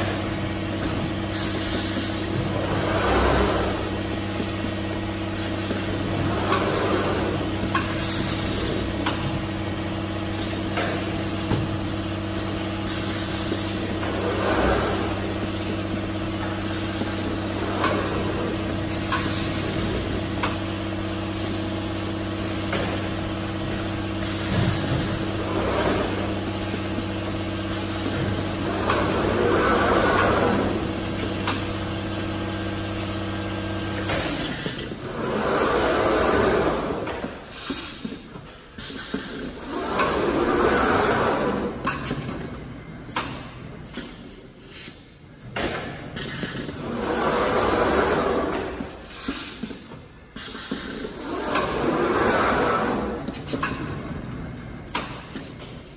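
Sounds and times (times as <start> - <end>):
machine hum: 0.0 - 37.5, 39.1 - 43.8, 45.3 - 49.2, 50.6 - 55.9.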